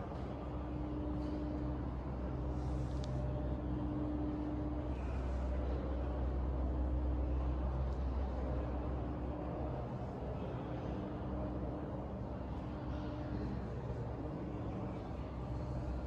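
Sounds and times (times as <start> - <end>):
low room hum and rumble: 0.0 - 16.0.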